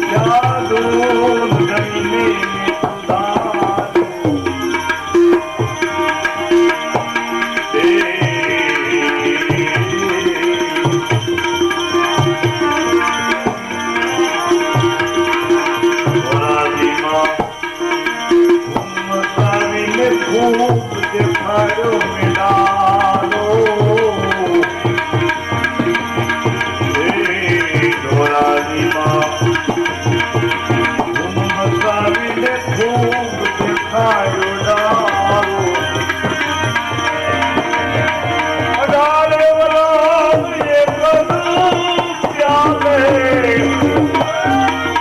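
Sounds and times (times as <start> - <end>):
tabla playing steady rhythm: 0.0 - 45.0.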